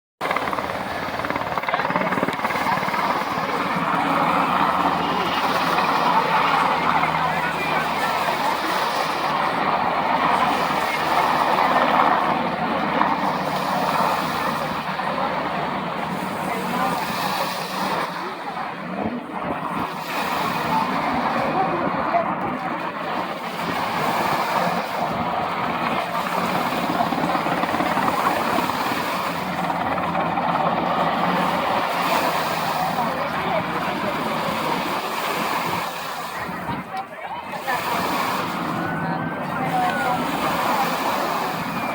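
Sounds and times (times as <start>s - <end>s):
helicopter rotor chopping: 0.2s - 41.9s.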